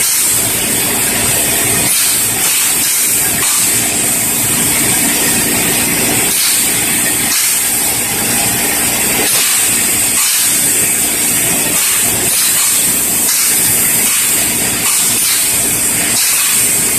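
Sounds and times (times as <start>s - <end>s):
low machinery hum: 0.0s - 16.9s
paint spray gun hissing: 0.0s - 16.9s.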